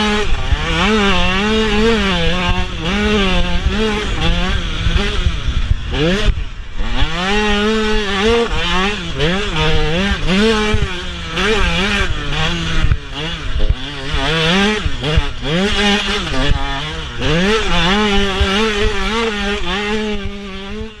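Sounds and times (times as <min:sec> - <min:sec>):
motocross bike engine revving: 0:00.0 - 0:21.0
wind rumble: 0:00.0 - 0:21.0.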